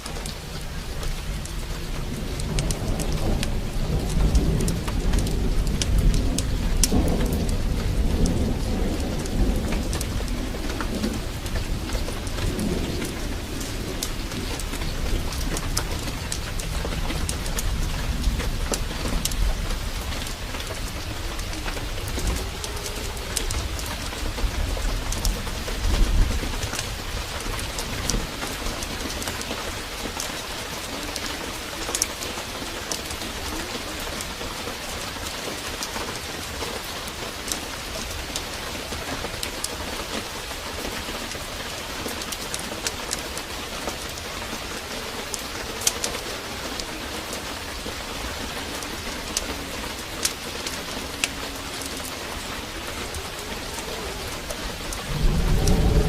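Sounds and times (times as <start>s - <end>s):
heavy rain pouring: 0.0s - 56.0s
sharp crackles and ticks: 0.0s - 56.0s
thunder rumble: 0.0s - 56.0s.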